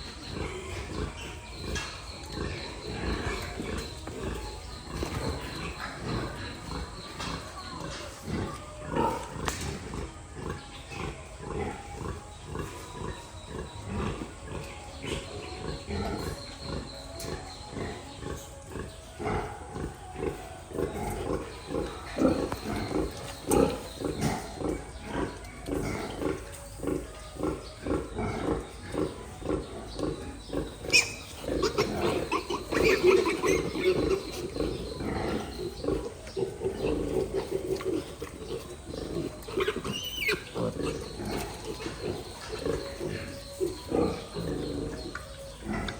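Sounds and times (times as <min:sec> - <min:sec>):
pigs grunting: 0:00.0 - 0:45.9.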